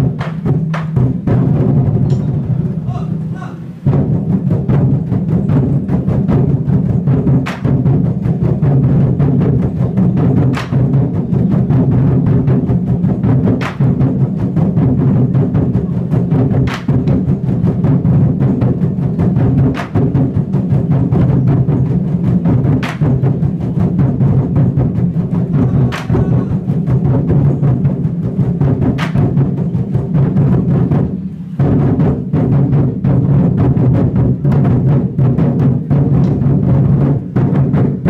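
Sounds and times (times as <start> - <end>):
drum troupe drumming: 0.0 - 38.0.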